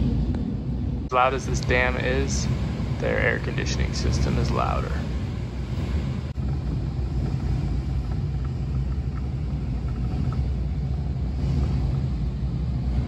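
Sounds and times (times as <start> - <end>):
ventilation and machinery hum: 0.0 - 13.0.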